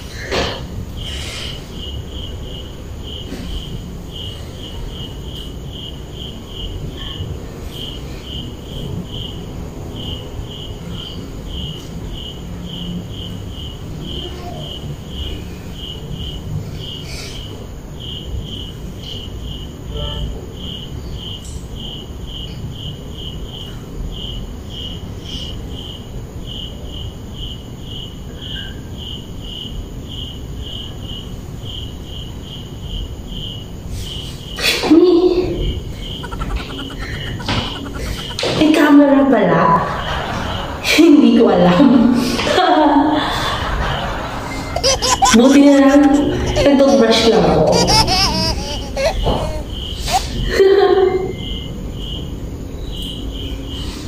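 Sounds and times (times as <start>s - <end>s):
cricket chirping: 0.0s - 42.2s, 42.8s - 54.0s.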